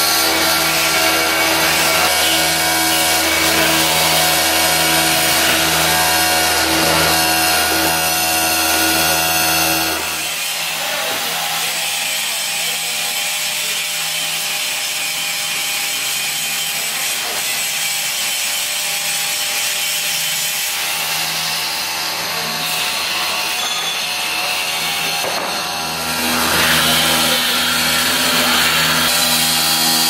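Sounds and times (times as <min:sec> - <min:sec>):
milling machine cutting steel pipe: 0:00.0 - 0:30.0
scraping and rasping hand work: 0:00.0 - 0:30.0.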